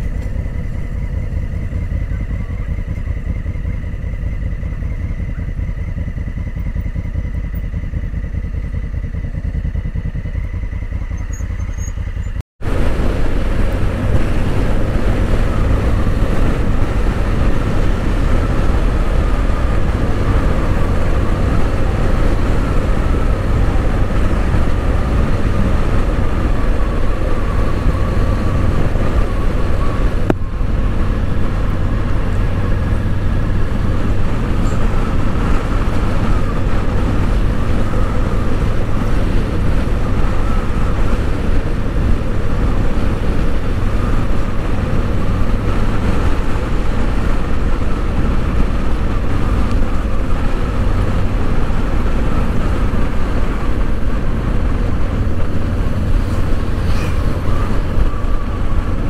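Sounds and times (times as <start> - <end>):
motorcycle engine: 0.0 - 59.0
road noise: 0.0 - 59.0
wind rush on microphone: 0.0 - 59.0.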